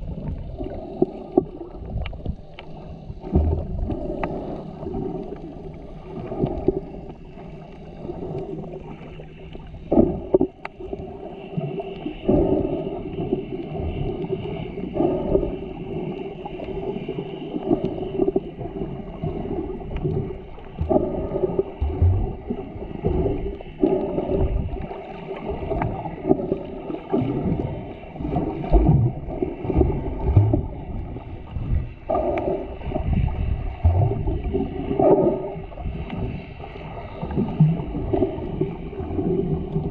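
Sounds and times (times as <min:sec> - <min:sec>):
muffled underwater churning water: 0:00.0 - 0:39.9.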